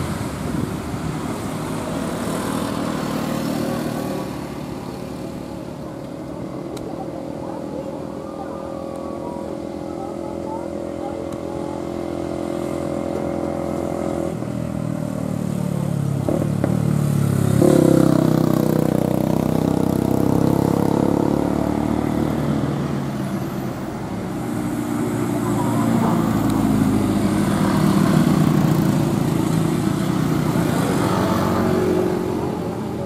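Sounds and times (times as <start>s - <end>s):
car passing: 0.0s - 33.0s
motorcycles passing: 0.0s - 33.0s.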